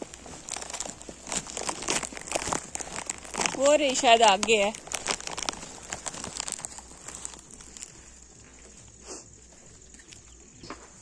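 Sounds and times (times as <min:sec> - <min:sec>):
crackly clicks: 0:00.0 - 0:08.9.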